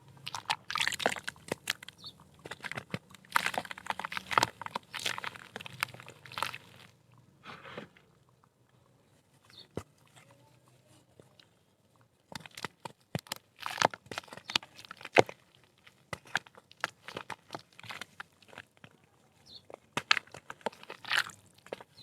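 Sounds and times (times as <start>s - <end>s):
dried mud crumbling: 0.0s - 8.4s, 9.0s - 22.0s.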